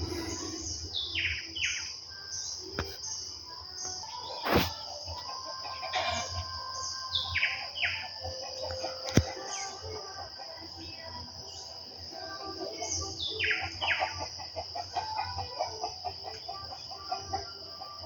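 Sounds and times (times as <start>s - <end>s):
high-pitched insect trill: 0.0s - 18.0s
songbirds chirping: 0.0s - 18.0s.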